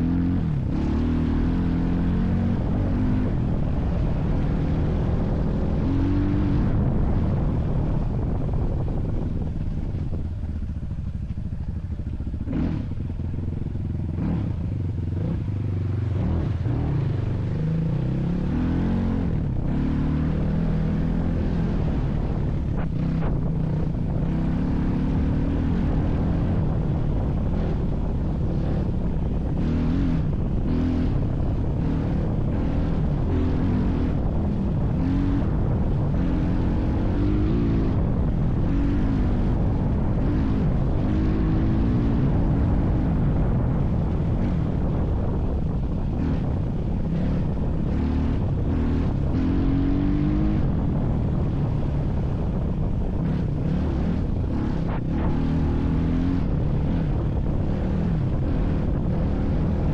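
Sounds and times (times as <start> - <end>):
vehicle engine running under load: 0.0 - 59.9.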